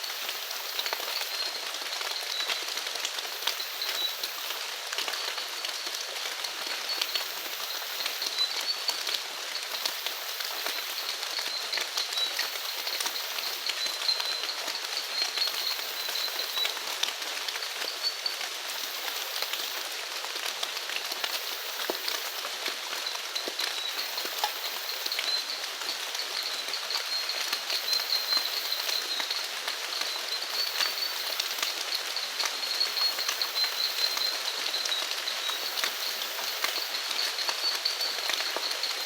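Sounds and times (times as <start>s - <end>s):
rain falling: 0.0s - 39.0s.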